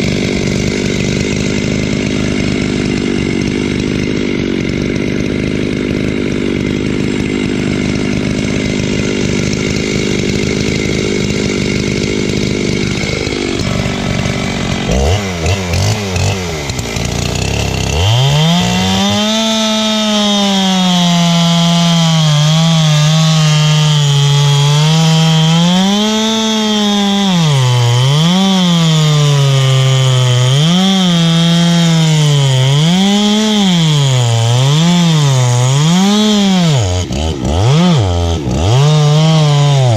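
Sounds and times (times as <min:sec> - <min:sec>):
chainsaw cutting wood: 0:00.0 - 0:39.9
chainsaw revving: 0:00.0 - 0:39.9.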